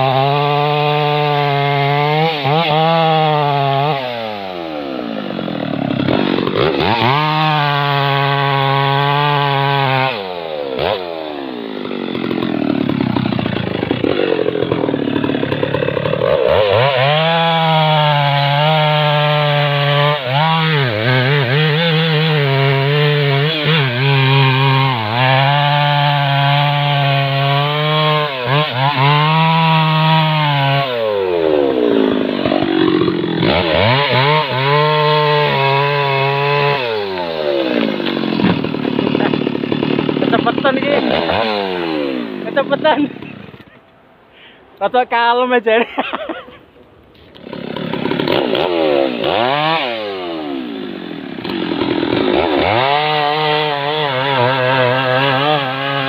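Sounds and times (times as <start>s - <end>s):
chainsaw cutting wood: 0.0s - 44.0s, 47.1s - 56.0s.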